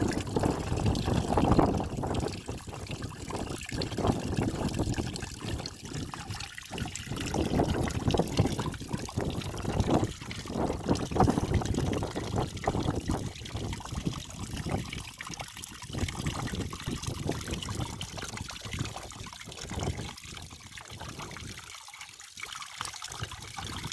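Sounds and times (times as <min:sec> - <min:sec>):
water trickling over waterfall: 0:00.0 - 0:23.9.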